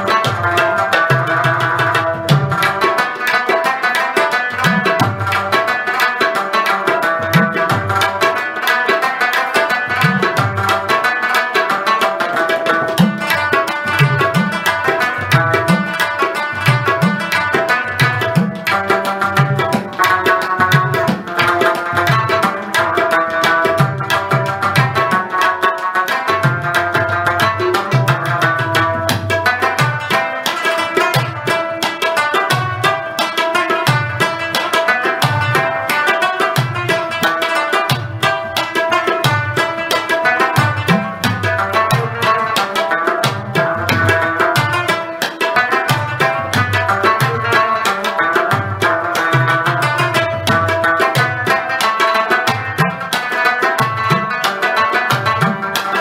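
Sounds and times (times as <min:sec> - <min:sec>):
fast tabla drumming: 0:00.0 - 0:56.0.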